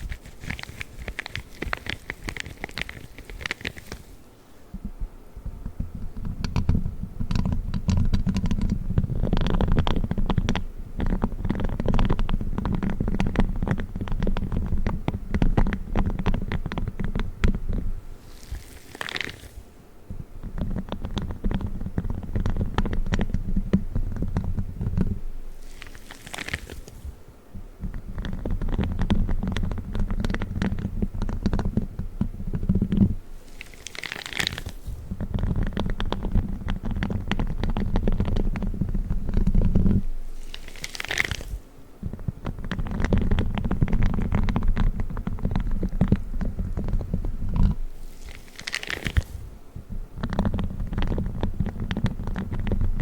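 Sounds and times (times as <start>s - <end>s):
gloves rubbing and scratching: 0.0s - 53.0s.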